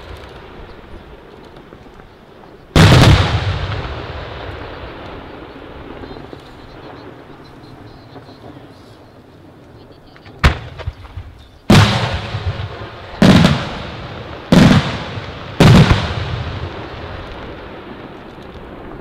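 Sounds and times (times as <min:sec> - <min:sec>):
firework shells booming: 0:02.6 - 0:09.3, 0:10.2 - 0:19.0.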